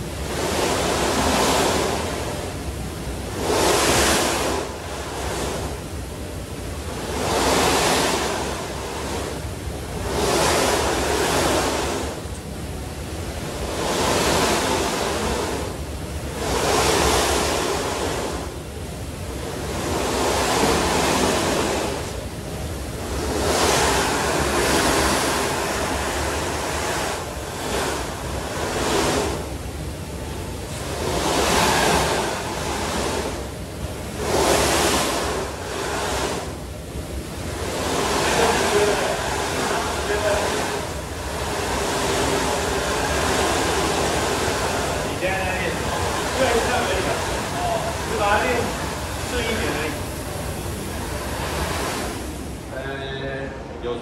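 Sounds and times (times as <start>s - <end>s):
running belt rumble: 0.0s - 54.0s.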